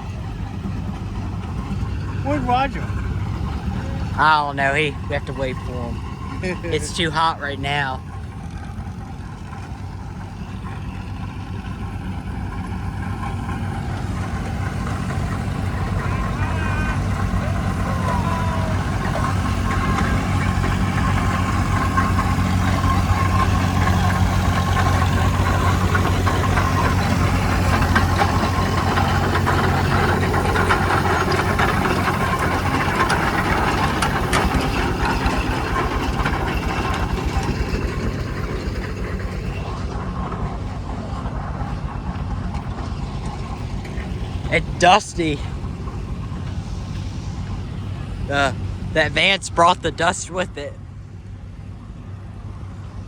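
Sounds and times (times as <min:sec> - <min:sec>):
road grader engine running: 0:00.0 - 0:53.0.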